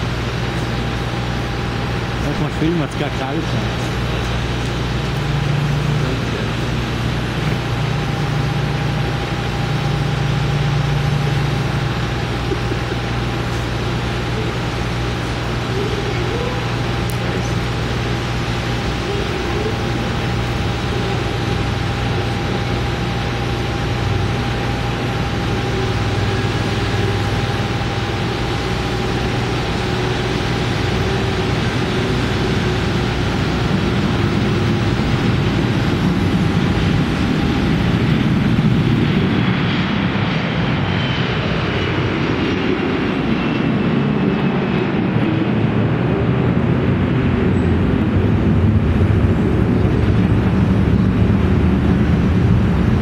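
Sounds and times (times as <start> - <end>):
jet engines at takeoff thrust: 0.0 - 53.0.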